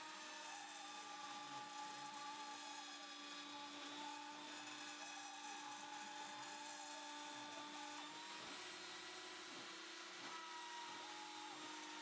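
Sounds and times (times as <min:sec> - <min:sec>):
milling machine spindle whine: 0:00.0 - 0:12.0.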